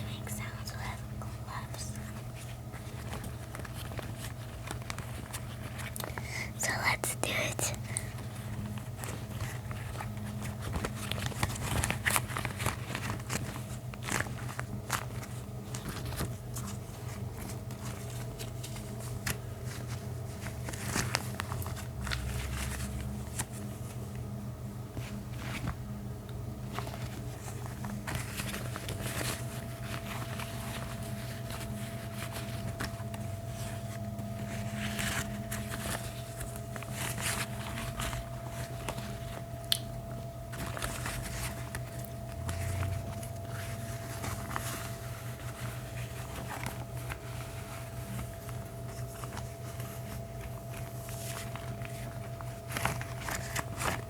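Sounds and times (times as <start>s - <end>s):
gloves rubbed and crinkled: 0.0s - 24.2s, 26.6s - 54.0s
steady low hum: 0.0s - 54.0s.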